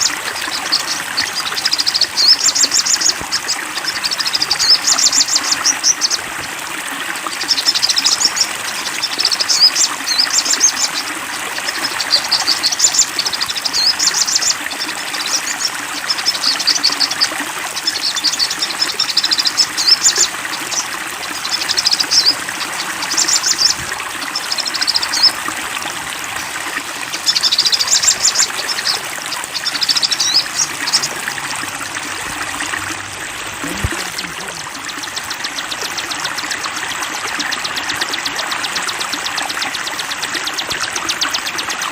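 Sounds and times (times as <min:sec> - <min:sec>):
flowing water: 0:00.0 - 0:41.9
songbird singing: 0:00.0 - 0:41.9.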